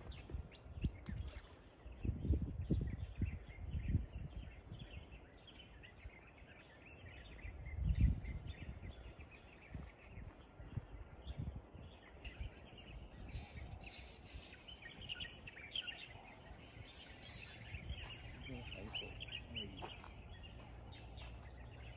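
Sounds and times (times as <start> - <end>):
small birds chirping: 0.0 - 21.9
wind rumbling on microphone: 0.0 - 21.9.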